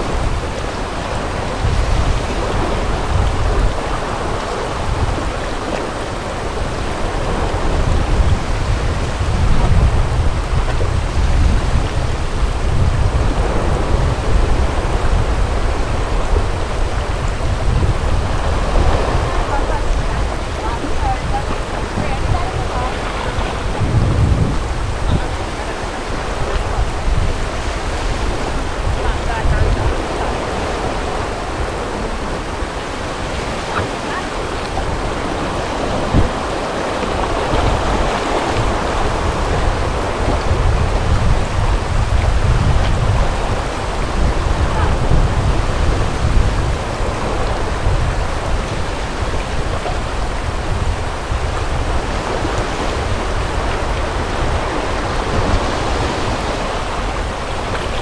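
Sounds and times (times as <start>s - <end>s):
paddle splashes: 0.0s - 58.0s
river water rushing: 0.0s - 58.0s
wind rumble on microphone: 0.0s - 58.0s.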